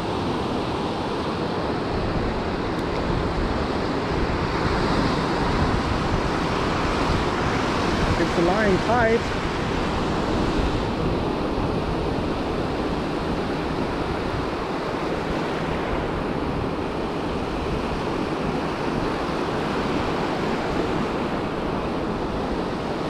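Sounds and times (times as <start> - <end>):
ocean surf breaking on beach: 0.0 - 23.0
wind buffeting microphone: 0.0 - 23.0.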